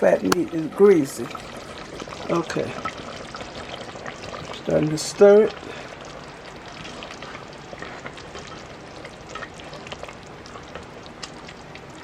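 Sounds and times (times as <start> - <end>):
sauce sizzling in kettle: 0.0 - 12.0.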